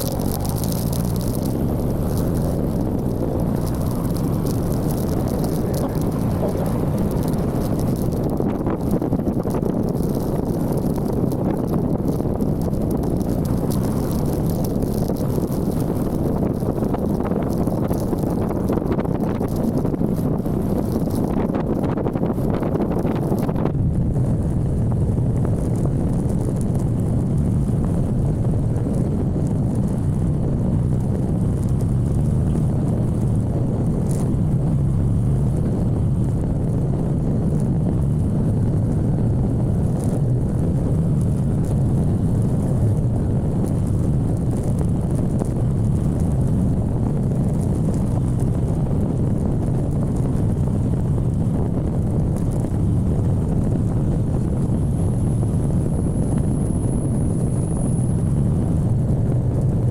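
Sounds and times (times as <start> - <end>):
motorcycle engine rumble: 0.0 - 59.9.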